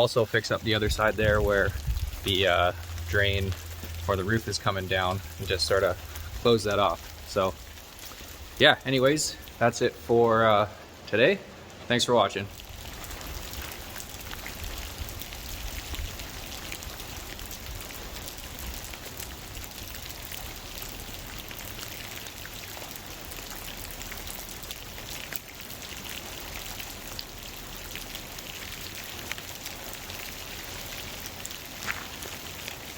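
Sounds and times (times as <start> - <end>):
close raindrop hits: 0.0 - 32.9
rain falling: 0.0 - 32.9.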